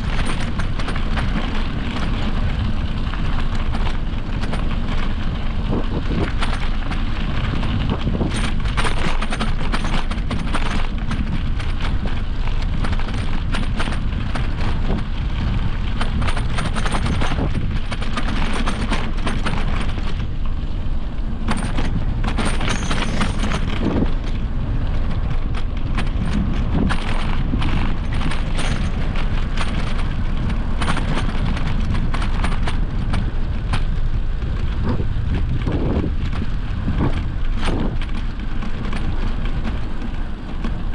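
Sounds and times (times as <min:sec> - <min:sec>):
bike jolting over dirt trail: 0:00.0 - 0:40.9
knocks and rattles: 0:00.0 - 0:40.9
wind buffeting microphone: 0:00.0 - 0:40.9.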